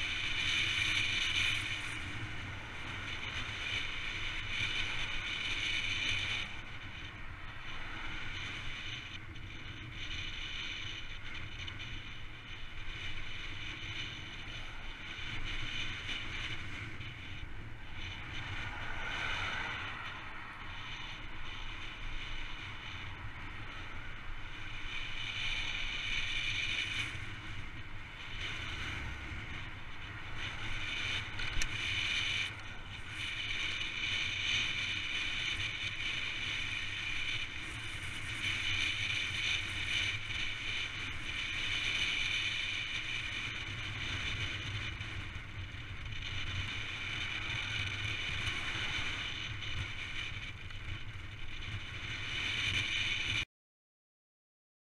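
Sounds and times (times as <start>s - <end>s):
bike tyres on wet tarmac: 0.0s - 53.4s
wind rushing over camera: 0.0s - 53.5s.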